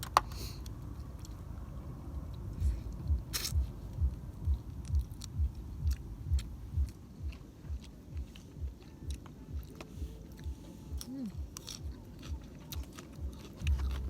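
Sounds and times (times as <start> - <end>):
person chewing food: 2.2 - 14.0.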